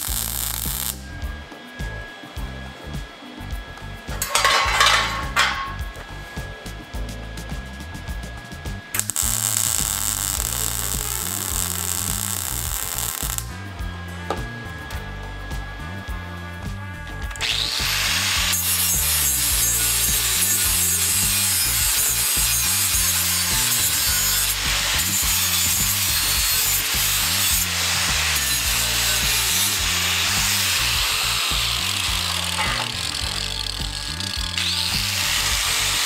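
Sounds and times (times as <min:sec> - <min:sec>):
angle grinder grinding metal: 0:00.0 - 0:36.0
background music with low beat: 0:00.0 - 0:36.0.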